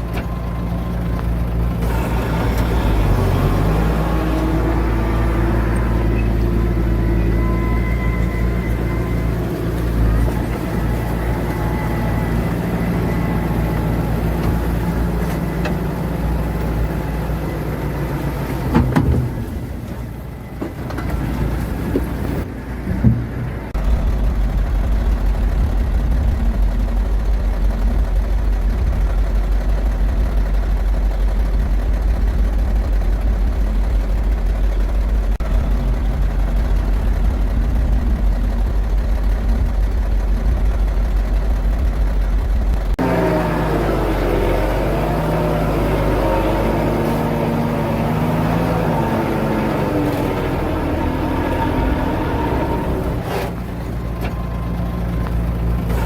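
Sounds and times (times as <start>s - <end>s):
engine knocks: 0.0s - 56.0s
heavy diesel engine running: 0.0s - 56.0s.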